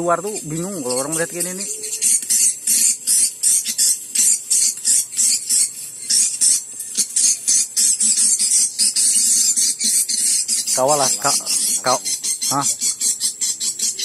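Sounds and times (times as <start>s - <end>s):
swiftlets twittering: 0.0s - 13.6s.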